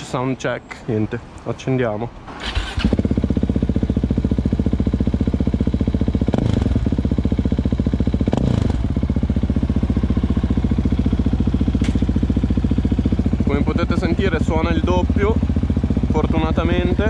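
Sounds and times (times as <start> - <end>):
motorcycle engine idling: 2.5 - 17.0.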